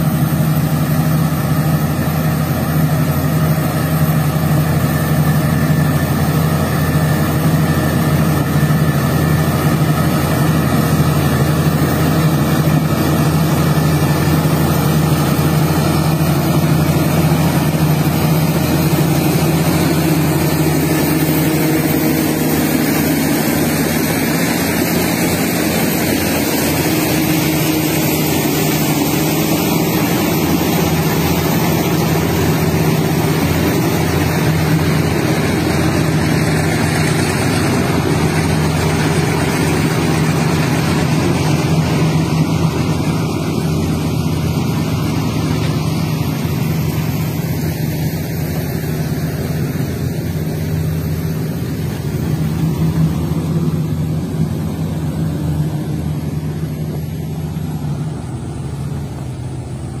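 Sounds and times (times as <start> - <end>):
diesel truck engine running: 0.0 - 60.0.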